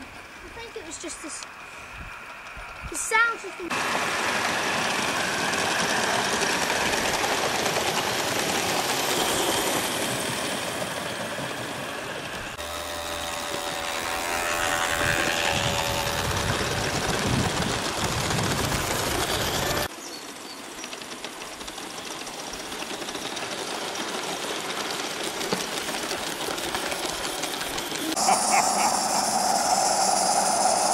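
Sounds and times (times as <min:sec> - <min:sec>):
model train running on rails: 0:00.0 - 0:30.9.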